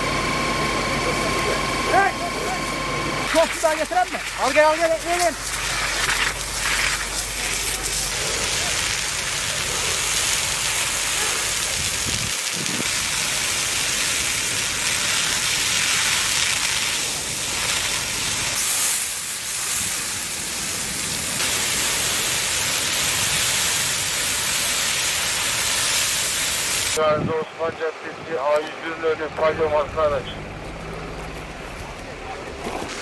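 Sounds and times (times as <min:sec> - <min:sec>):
forest fire rushing hiss: 0:03.2 - 0:31.6.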